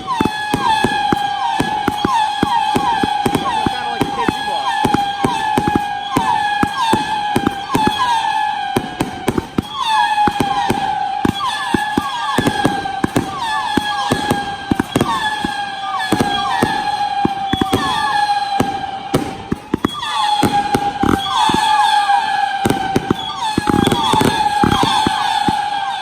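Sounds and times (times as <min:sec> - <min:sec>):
fireworks bangs and crackles: 0:00.0 - 0:26.0
short falling whistles: 0:00.0 - 0:26.0
steady whistling tone: 0:00.0 - 0:26.0.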